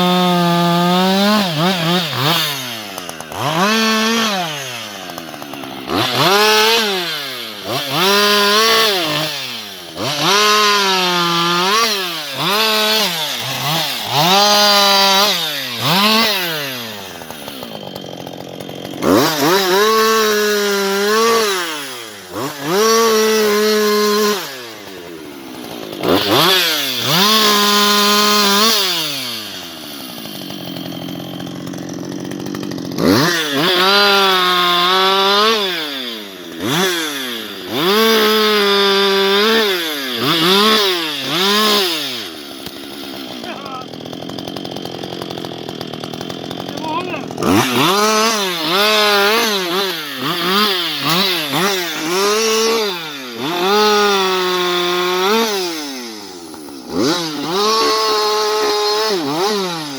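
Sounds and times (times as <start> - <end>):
chainsaw revving and idling: 0.0 - 59.9.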